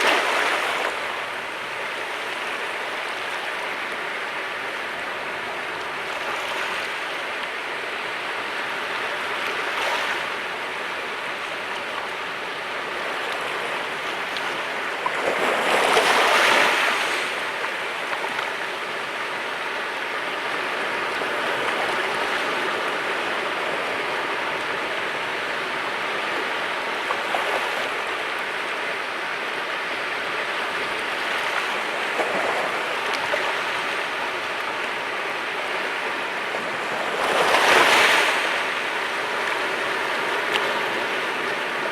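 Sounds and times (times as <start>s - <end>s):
waves washing on rocky shore: 0.0s - 41.9s.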